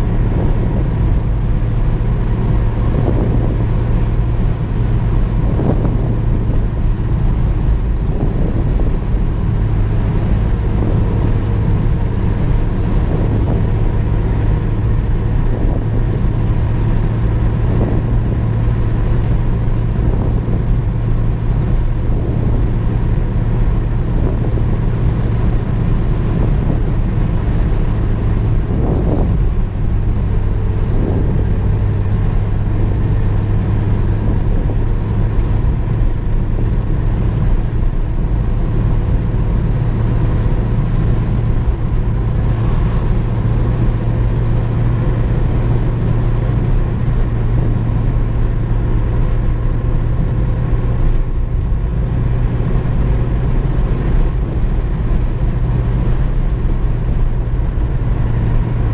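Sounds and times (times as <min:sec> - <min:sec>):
road and tyre noise: 0:00.0 - 0:58.9
vehicle engine droning: 0:00.0 - 0:58.9.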